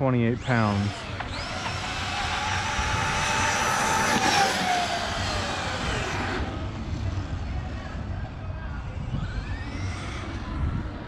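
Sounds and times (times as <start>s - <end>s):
electric motor whine: 0.2s - 11.0s
gear and tyre noise: 0.2s - 11.0s.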